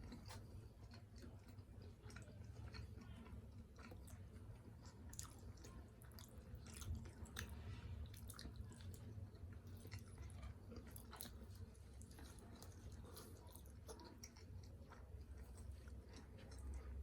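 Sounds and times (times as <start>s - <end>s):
chewing with wet mouth clicks: 0.0s - 17.0s.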